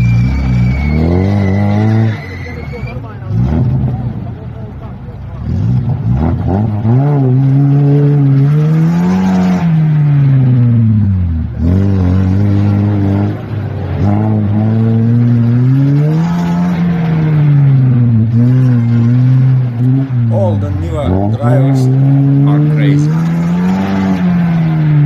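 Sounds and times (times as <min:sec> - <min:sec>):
car engine revving hard: 0:00.0 - 0:04.4, 0:05.4 - 0:25.0.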